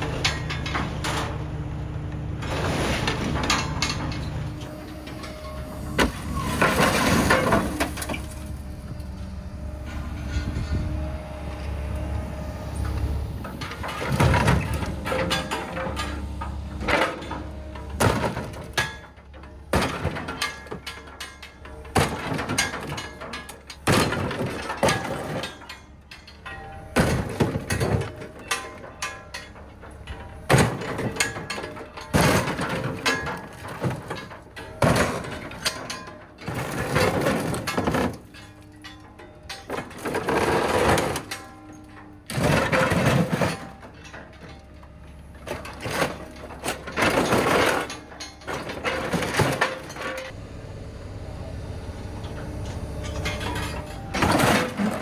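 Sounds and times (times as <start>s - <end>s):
metal crunching and cracking: 0.0s - 1.6s, 2.4s - 12.1s, 12.8s - 50.4s, 52.3s - 55.0s.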